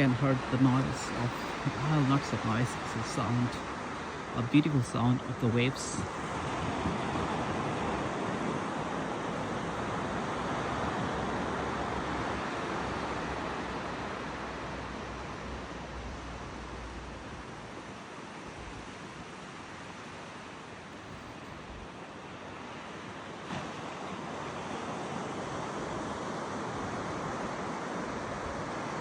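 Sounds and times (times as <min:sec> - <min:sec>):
ocean waves breaking on beach: 0:00.0 - 0:29.0.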